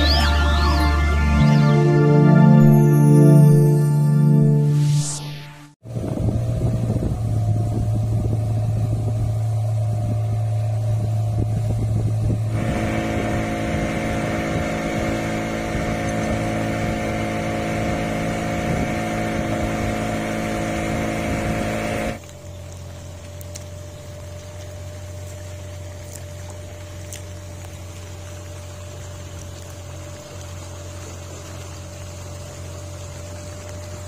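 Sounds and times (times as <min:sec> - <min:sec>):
boat motor running: 0:05.8 - 0:34.0.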